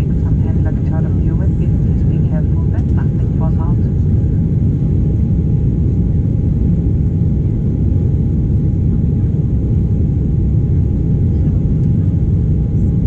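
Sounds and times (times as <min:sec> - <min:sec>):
airliner cabin low rumble: 0:00.0 - 0:13.0
faint steady whine: 0:00.0 - 0:13.0.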